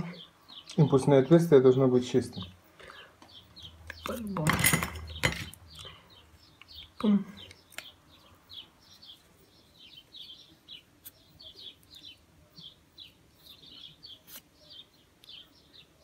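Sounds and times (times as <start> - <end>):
small bird chirping: 0.0 - 1.4, 2.3 - 16.0.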